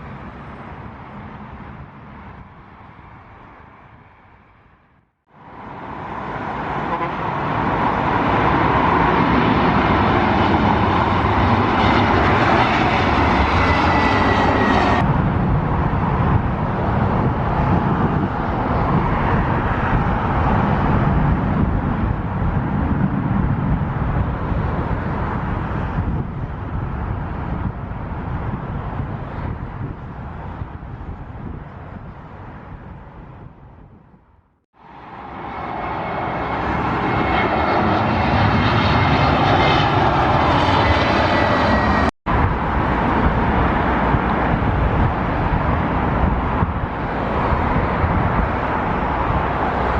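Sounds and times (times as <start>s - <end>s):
jet engines roaring: 0.0s - 33.6s, 34.8s - 49.9s.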